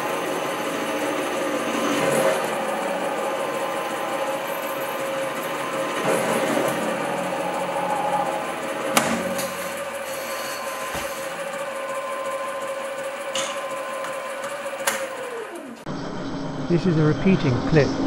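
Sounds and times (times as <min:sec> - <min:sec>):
lathe whine: 0:00.0 - 0:18.0.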